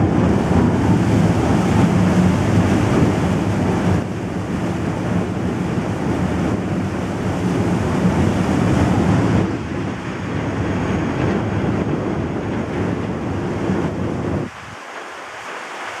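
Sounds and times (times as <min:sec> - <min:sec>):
ship's wake churning: 0:00.0 - 0:16.0
wind buffeting microphone: 0:00.0 - 0:16.0.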